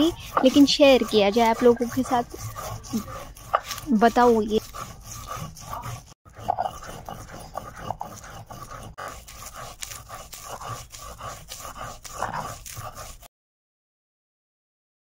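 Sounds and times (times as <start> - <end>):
stone grinding on stone: 0.0 - 13.3.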